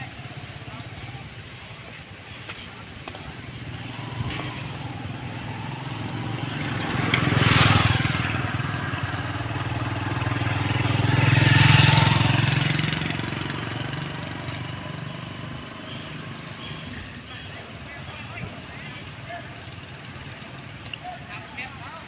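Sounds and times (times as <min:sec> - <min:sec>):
vehicles passing by: 0:00.0 - 0:22.0.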